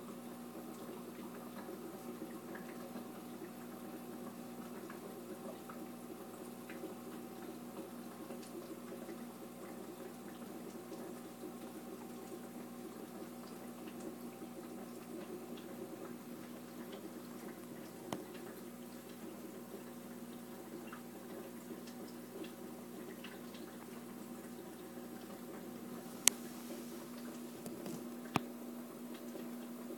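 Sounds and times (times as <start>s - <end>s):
sponge filter bubbling: 0.0s - 29.9s.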